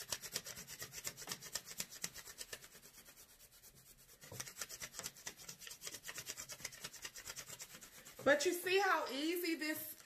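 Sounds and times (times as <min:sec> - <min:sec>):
pencil rubbing on paper: 0:00.0 - 0:08.8.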